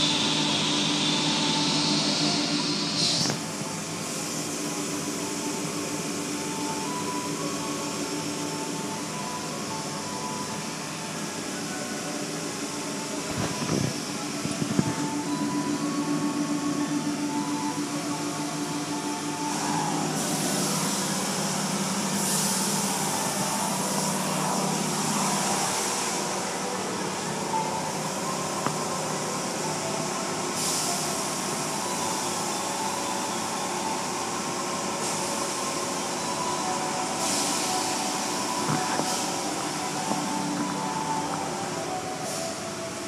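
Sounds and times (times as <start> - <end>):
car wash machinery and brushes: 0.0 - 43.0.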